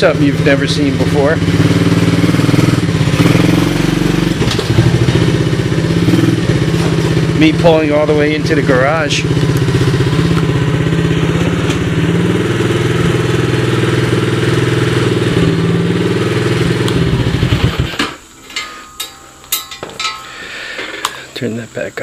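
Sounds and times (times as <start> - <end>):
atv engine idling: 0.0 - 18.0.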